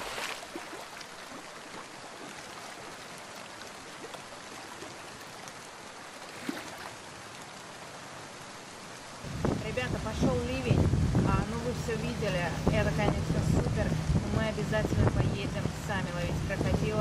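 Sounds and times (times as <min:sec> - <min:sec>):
river water rushing by boat hull: 0:00.0 - 0:17.0.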